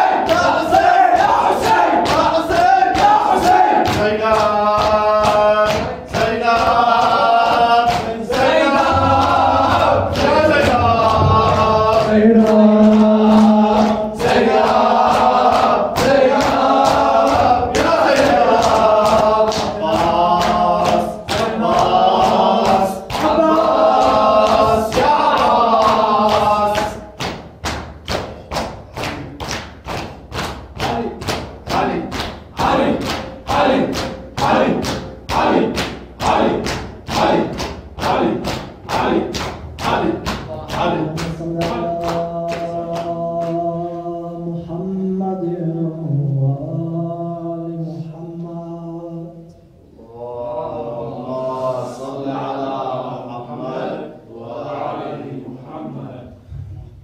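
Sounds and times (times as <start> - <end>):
rhythmic chest-beating: 0.0 - 47.2
group chanting in unison: 0.0 - 57.0.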